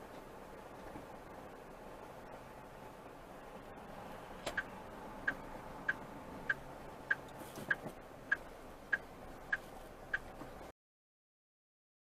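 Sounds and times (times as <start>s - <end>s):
truck engine humming: 0.0s - 10.7s.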